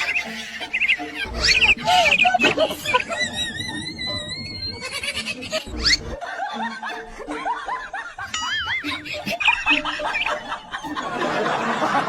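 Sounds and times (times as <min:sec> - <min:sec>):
high snickering laughter: 0:00.0 - 0:12.0.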